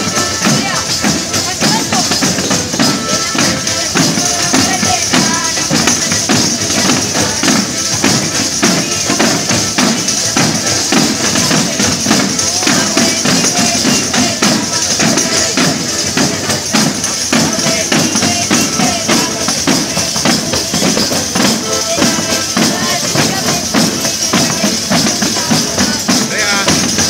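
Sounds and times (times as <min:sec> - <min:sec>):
accordion: 0:00.0 - 0:27.0
frame drums with jingles: 0:00.0 - 0:27.0.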